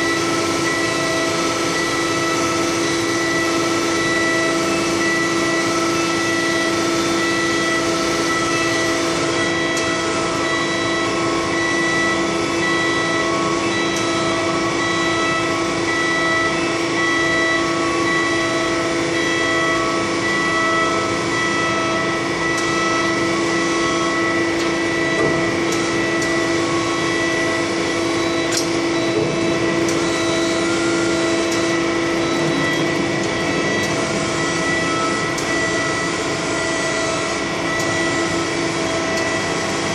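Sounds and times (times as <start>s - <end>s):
machinery drone with whining tones: 0.0s - 39.9s.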